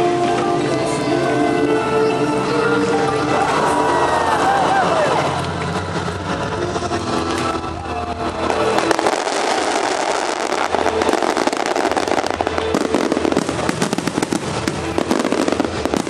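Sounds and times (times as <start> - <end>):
fireworks bursts and crackling: 0.0 - 16.0.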